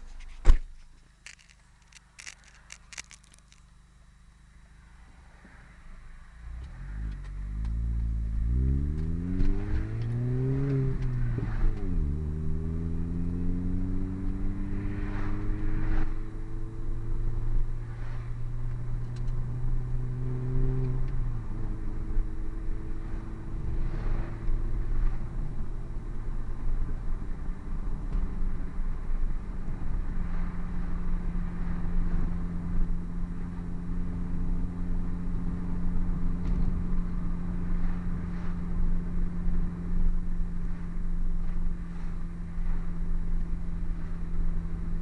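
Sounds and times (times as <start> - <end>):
car engine accelerating: 6.2 - 45.0.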